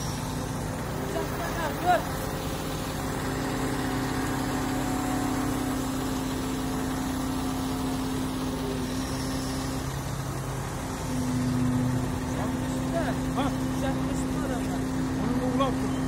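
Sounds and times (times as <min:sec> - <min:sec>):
crane engine droning: 0:00.0 - 0:16.0.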